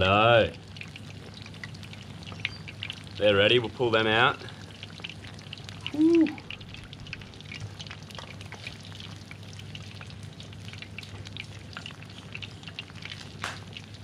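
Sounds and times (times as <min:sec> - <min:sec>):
fish deep-frying in oil: 0:00.0 - 0:14.0.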